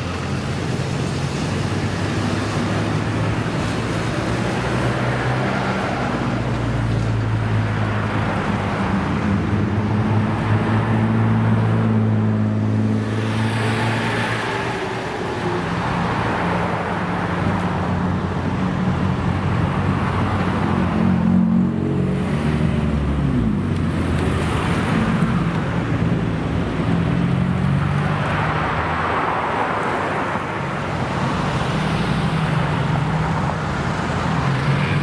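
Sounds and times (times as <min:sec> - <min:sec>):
car engines passing: 0:00.0 - 0:35.0
road noise: 0:00.0 - 0:35.0.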